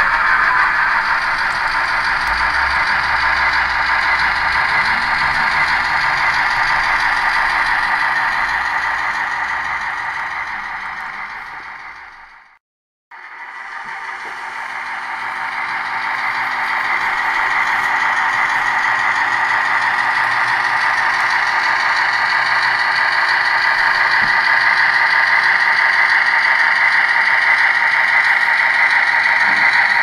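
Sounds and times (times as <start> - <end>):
model train running: 0.0 - 12.6, 13.2 - 30.0.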